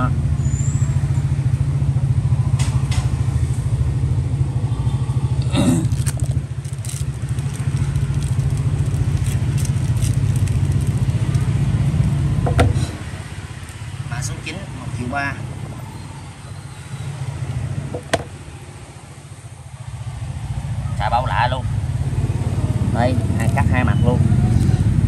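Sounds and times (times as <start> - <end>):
low motor rumble: 1.0 - 25.0.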